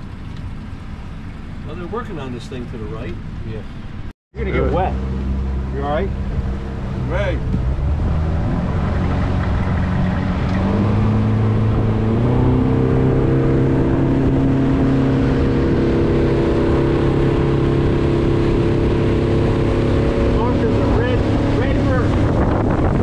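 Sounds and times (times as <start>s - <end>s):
motorboat engine throttling up: 0.0s - 3.2s, 4.9s - 23.0s.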